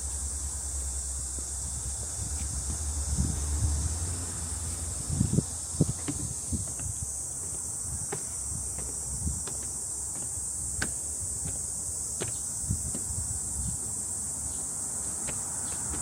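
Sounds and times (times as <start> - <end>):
cicadas droning: 0.0 - 16.0
soft footsteps on trail: 0.7 - 3.4, 4.6 - 13.8, 15.0 - 16.0.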